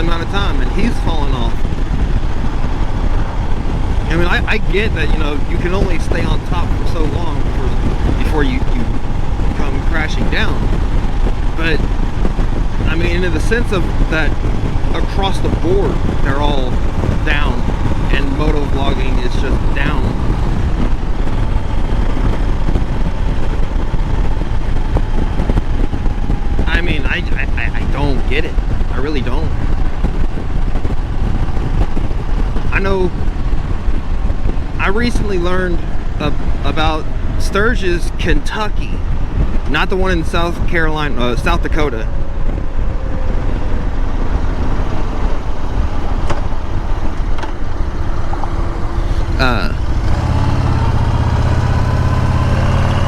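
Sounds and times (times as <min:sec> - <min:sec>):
motorcycle engine rumble: 0:00.0 - 0:53.0
wind noise on microphone: 0:00.0 - 0:53.0.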